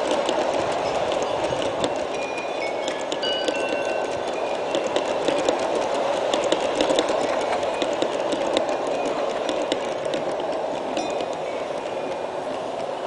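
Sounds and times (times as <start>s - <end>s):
model train wheels clicking: 0.0s - 13.0s.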